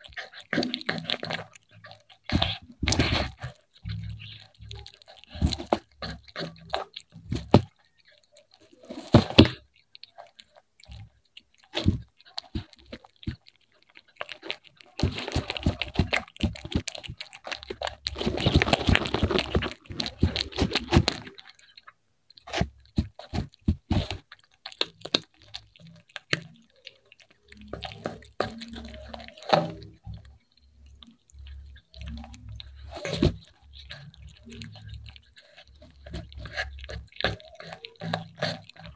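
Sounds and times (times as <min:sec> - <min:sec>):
cat crunching fried fish: 0:00.0 - 0:38.9.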